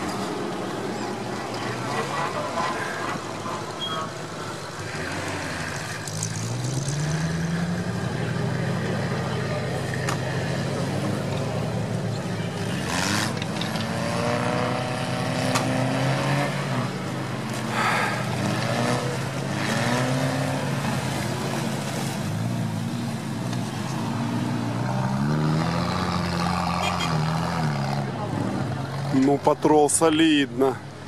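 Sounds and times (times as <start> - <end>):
off-road vehicle engines revving: 0.0 - 31.0.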